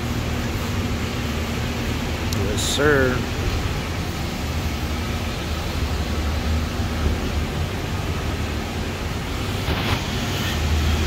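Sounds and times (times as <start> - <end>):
car wash equipment hissing: 0.0 - 11.0.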